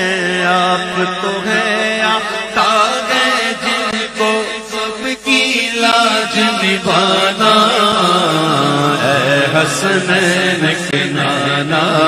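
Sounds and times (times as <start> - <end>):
men singing devotional song: 0.0 - 12.0.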